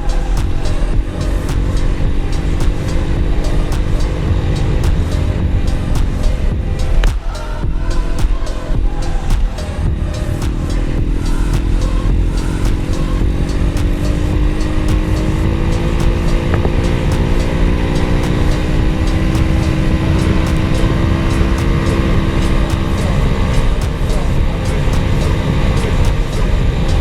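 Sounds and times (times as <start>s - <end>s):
pit bike engine revving: 0.0s - 27.0s.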